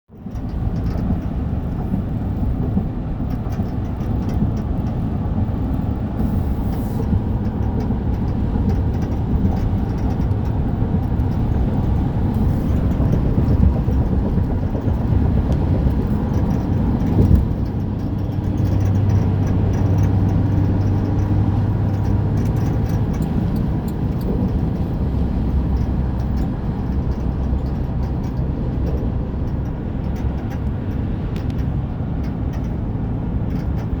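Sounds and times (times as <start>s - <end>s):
engine and road noise: 0.1s - 34.0s
light rattle: 0.2s - 34.0s.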